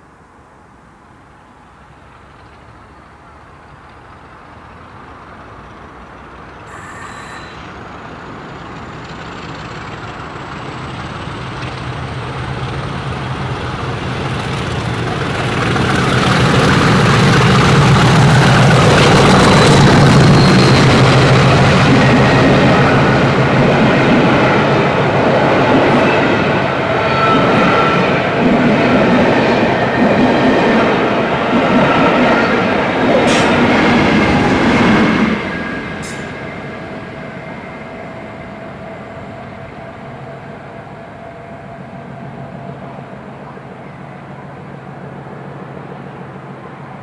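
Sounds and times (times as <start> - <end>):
diesel locomotive engine: 0.0 - 47.0
train wheel and rail noise: 0.0 - 47.0.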